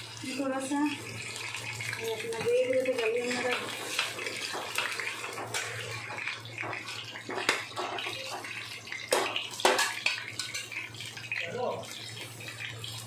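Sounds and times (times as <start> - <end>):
meat sizzling in hot oil: 0.0 - 13.0
metal spatula scraping a pan: 0.2 - 13.0.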